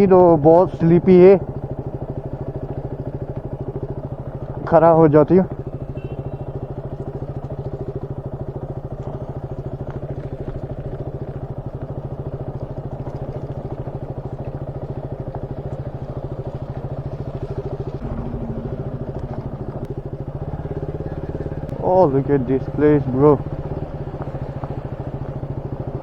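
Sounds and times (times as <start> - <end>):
motorcycle engine running: 0.0 - 26.0
clatter over rough ground: 0.6 - 26.0.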